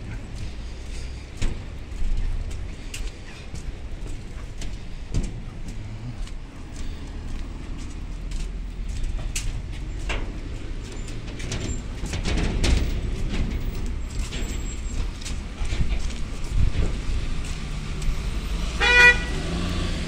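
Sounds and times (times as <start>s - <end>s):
footsteps: 0.0s - 18.4s
low rumble of traffic: 0.0s - 20.0s.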